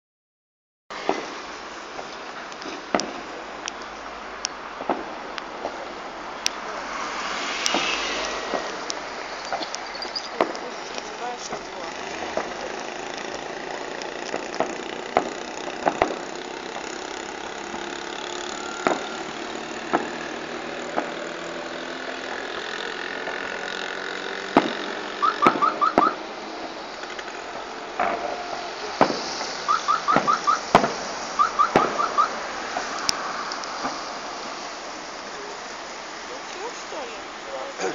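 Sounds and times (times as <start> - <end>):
rapid fireworks pops: 0.9 - 6.8, 7.4 - 21.4, 22.0 - 37.2
fireworks bangs: 0.9 - 37.2
steady background noise: 0.9 - 37.9.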